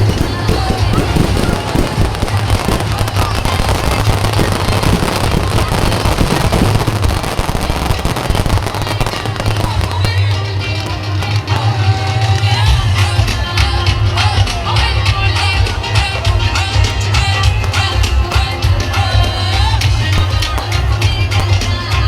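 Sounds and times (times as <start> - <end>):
fireworks crackling and popping: 0.0 - 22.0
music with heavy bass: 0.0 - 22.0.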